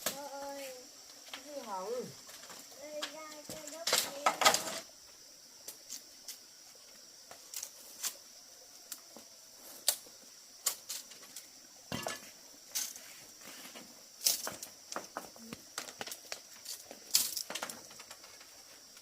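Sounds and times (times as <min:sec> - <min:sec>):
faint high-pitched hiss: 0:00.0 - 0:19.0.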